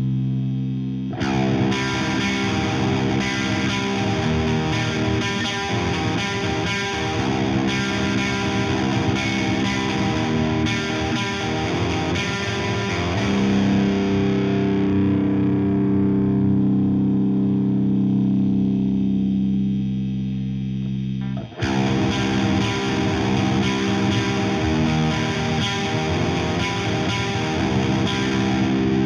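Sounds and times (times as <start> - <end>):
distorted electric bass: 0.0 - 29.0.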